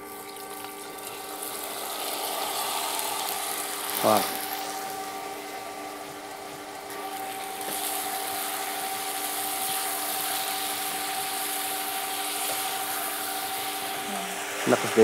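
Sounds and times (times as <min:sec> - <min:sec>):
apples sizzling in a saucepan: 0:00.0 - 0:15.0
steady multi-tone hum: 0:00.0 - 0:15.0.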